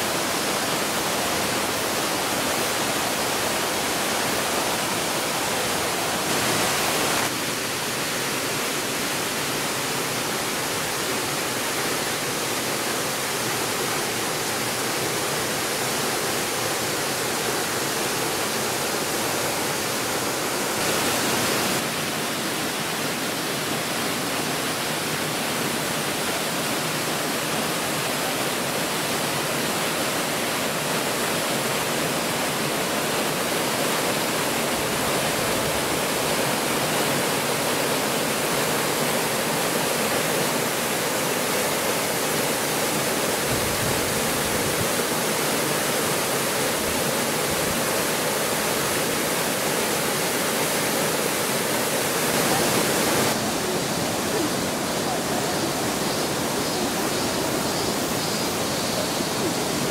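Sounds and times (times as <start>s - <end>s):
rush of falling water: 0.0s - 59.9s.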